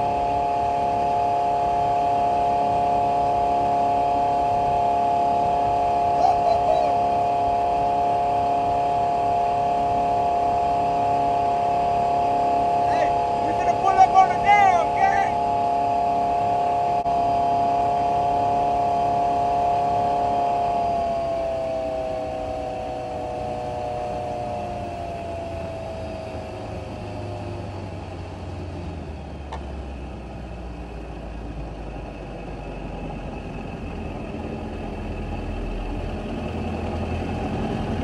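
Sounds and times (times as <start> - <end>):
outboard motor whining: 0.0 - 38.0.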